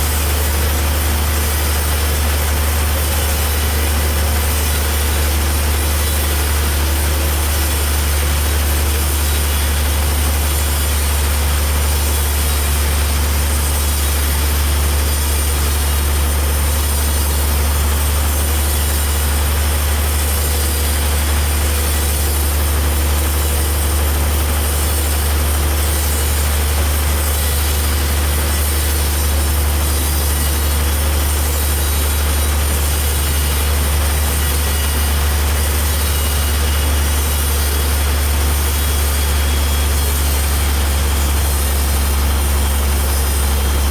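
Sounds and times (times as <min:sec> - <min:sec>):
heavy machinery humming: 0:00.0 - 0:43.9.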